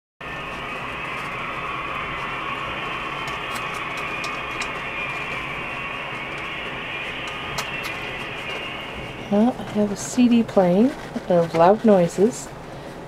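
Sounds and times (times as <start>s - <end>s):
steady mechanical din: 0.2s - 12.2s.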